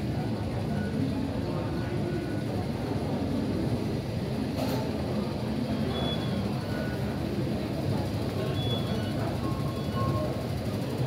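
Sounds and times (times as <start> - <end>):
station concourse rumble and hum: 0.0 - 11.0.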